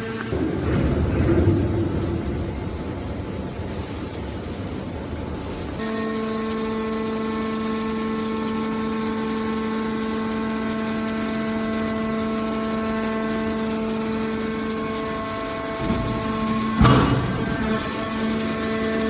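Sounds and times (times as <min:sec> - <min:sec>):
hydraulic power unit whining: 0:00.0 - 0:19.0.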